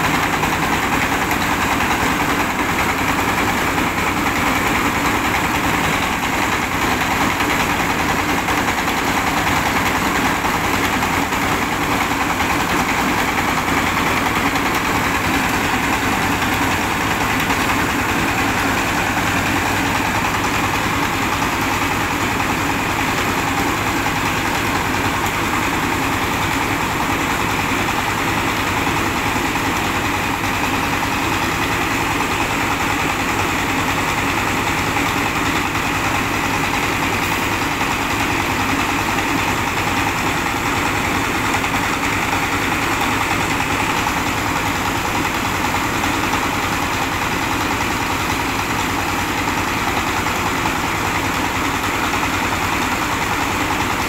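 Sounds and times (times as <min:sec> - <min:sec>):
diesel engine running: 0:00.0 - 0:54.0
rice milling machine: 0:00.0 - 0:54.0.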